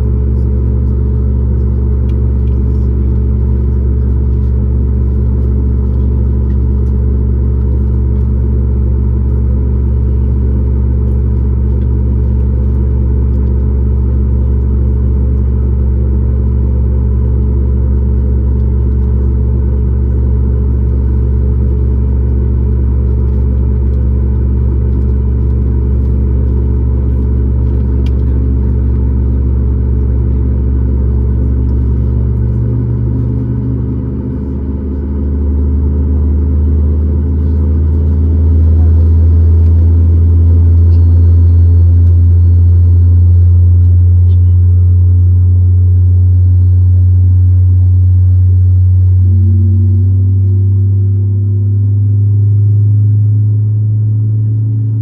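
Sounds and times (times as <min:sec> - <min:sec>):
held low tones: 0:00.0 - 0:55.0
jet engine and airflow rumble: 0:00.0 - 0:55.0.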